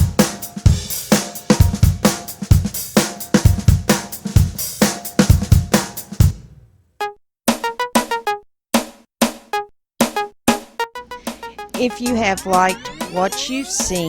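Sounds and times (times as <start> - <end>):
drum kit beat: 0.0 - 6.7, 7.5 - 14.0.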